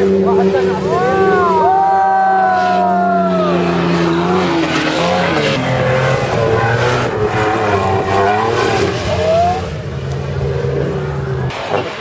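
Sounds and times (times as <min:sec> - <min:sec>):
suv engine revving hard: 0:00.0 - 0:09.8.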